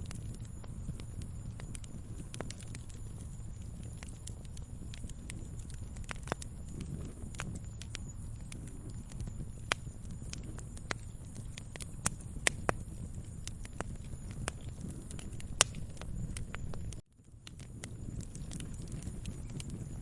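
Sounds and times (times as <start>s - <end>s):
low rumble of burning: 0.0s - 20.0s
wood fire crackling and popping: 0.0s - 20.0s.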